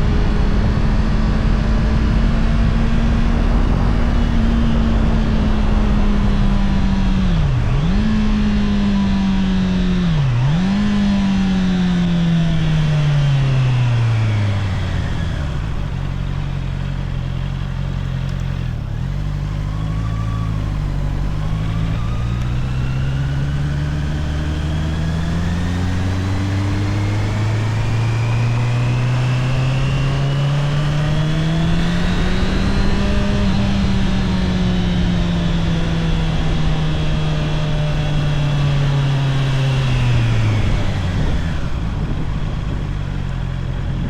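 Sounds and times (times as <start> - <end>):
motorcycle engine: 0.0 - 44.0.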